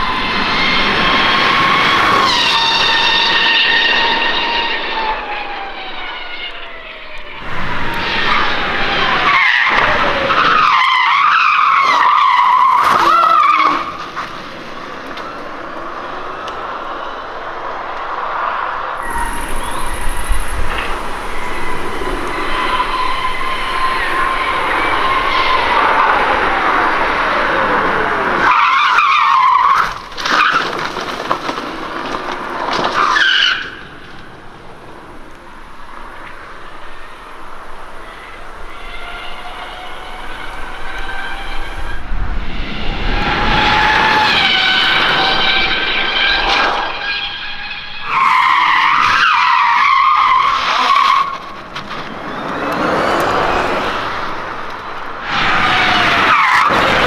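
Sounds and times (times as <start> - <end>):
road noise: 0.0 - 57.0
tyres squealing: 0.0 - 57.0.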